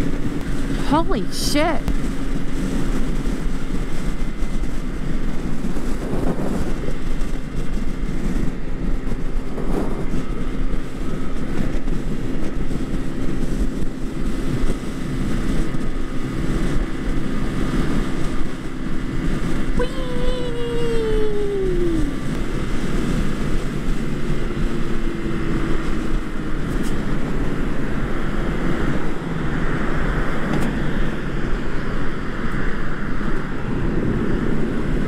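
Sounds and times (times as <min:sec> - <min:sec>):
road noise: 0:00.0 - 0:35.0
scooter engine droning: 0:00.0 - 0:35.0
wind rushing over microphone: 0:00.0 - 0:35.0.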